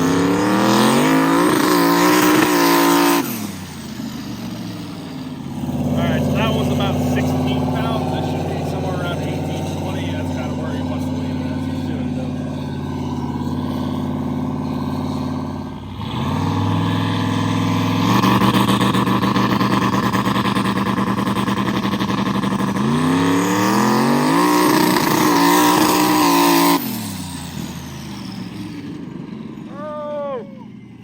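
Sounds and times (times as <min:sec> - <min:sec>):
turbocharged truck engine revving: 0:00.0 - 0:31.0.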